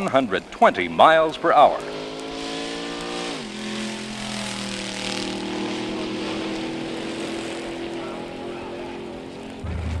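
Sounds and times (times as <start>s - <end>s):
car engine racing: 0.0s - 10.0s.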